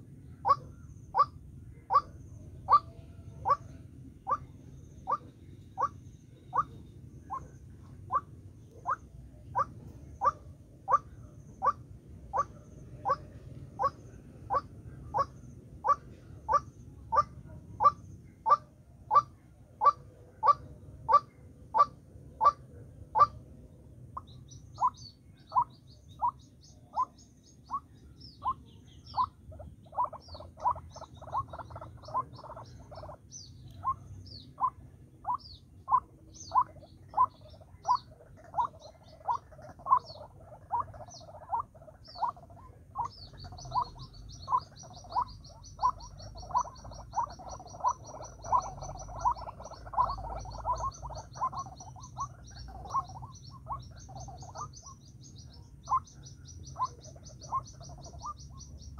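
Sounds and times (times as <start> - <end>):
bird repeated call notes: 0.0 - 58.9.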